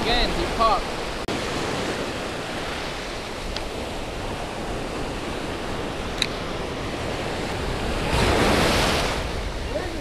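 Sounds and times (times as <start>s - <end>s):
surf washing up: 0.0s - 10.0s
wind on microphone: 0.0s - 10.0s.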